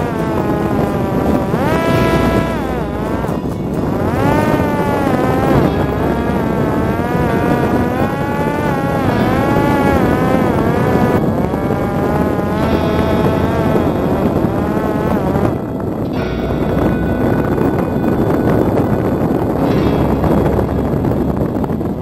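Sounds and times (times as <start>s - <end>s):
drone propeller whining: 0.0s - 22.0s
wind rushing over microphone: 0.0s - 22.0s.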